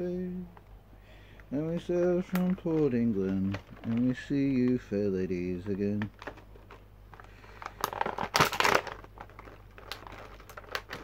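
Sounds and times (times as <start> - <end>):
sharp clicks and crackles: 1.4 - 5.0, 5.6 - 11.0
plastic packaging crinkling: 1.6 - 11.0.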